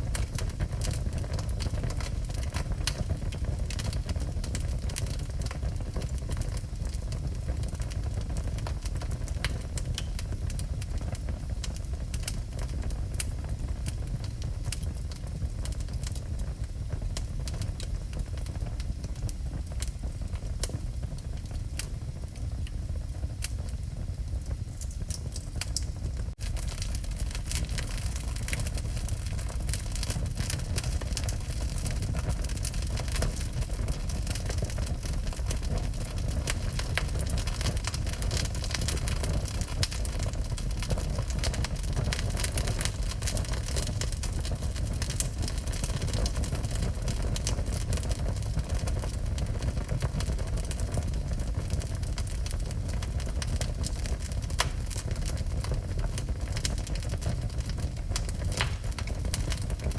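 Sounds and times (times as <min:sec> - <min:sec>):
low fire rumble: 0:00.0 - 0:59.9
wood fire crackling and popping: 0:00.0 - 0:59.9.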